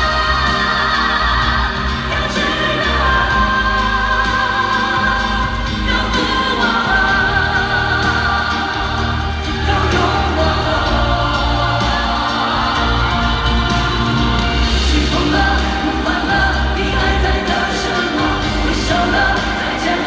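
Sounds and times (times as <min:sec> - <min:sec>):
choir-like singing: 0:00.0 - 0:20.0
steady bass line: 0:00.0 - 0:20.0.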